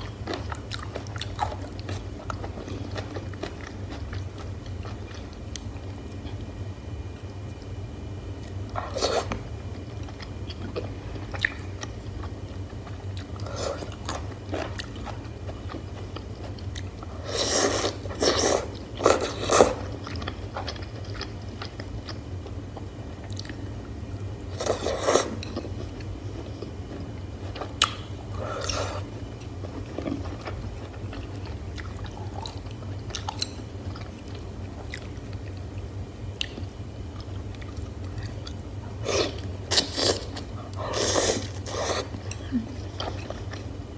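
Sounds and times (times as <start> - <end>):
person chewing food: 0.0 - 6.5, 8.4 - 23.6, 24.5 - 35.7, 36.3 - 43.8.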